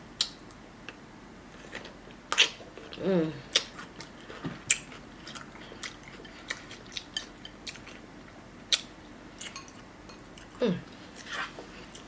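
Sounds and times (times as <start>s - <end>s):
chewing food: 1.6s - 12.0s.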